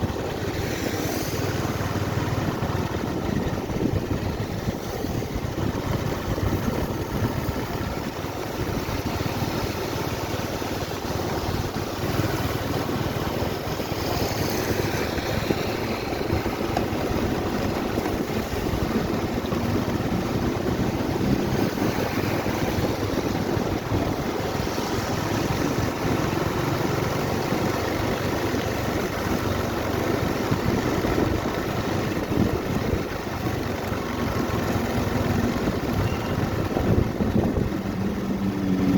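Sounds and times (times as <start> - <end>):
motorcycle engine: 0.0 - 38.9
road noise: 0.0 - 38.9
wind buffeting microphone: 0.0 - 38.9.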